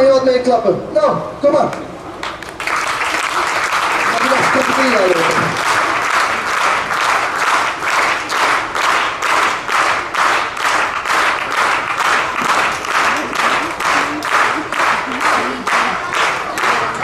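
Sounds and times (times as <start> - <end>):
crowd clapping in rhythm: 1.7 - 17.0.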